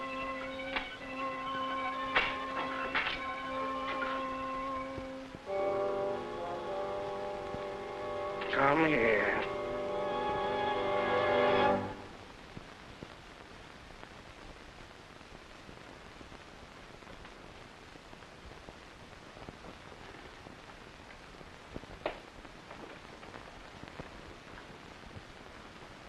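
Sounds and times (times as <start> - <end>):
film soundtrack hiss and crackle: 0.0 - 26.0.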